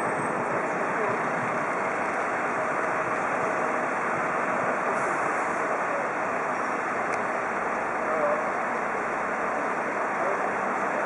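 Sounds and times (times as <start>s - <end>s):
heavy vehicles idling: 0.0s - 11.0s.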